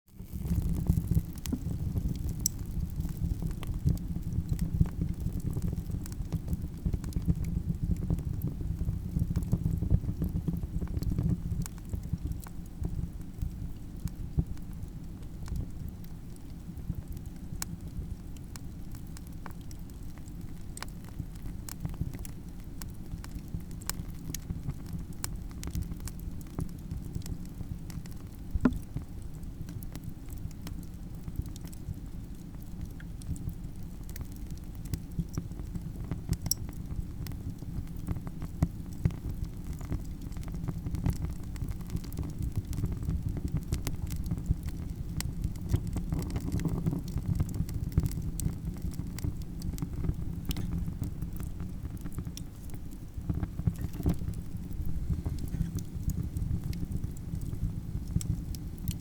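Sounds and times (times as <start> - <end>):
campfire crackling: 0.1 - 59.0.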